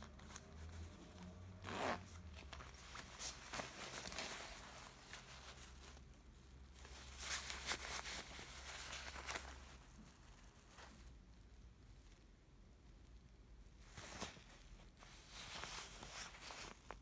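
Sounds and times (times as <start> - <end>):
jacket fabric rustling: 0.0 - 12.1, 13.6 - 17.0.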